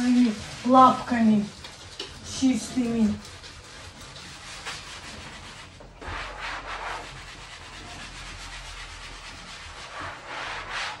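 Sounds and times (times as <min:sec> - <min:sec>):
scrubbing a painted door: 0:00.0 - 0:11.0.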